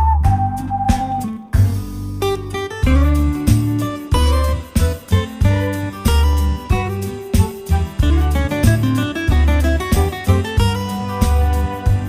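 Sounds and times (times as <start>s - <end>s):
plucked guitar music over beat: 0.0s - 12.0s.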